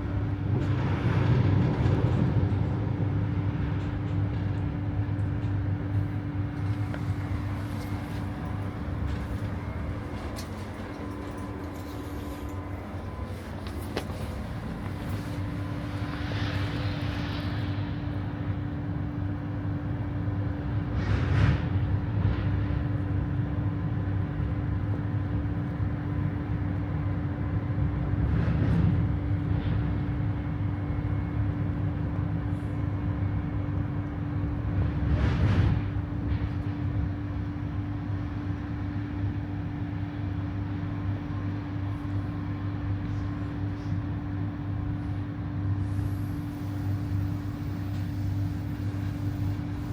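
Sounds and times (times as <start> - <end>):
constant electric hum: 0.0 - 49.9
train wheels rumbling on rails: 0.0 - 49.9.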